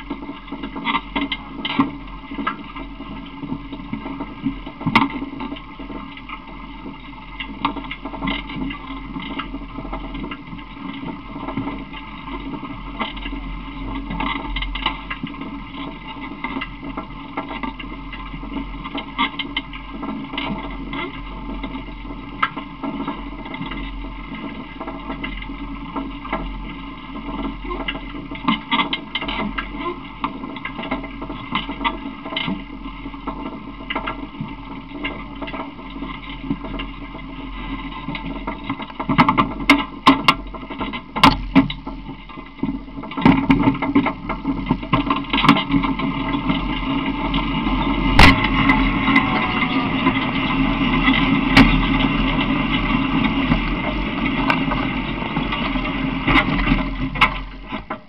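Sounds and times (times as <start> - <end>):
small vehicle rolling: 0.0 - 58.0.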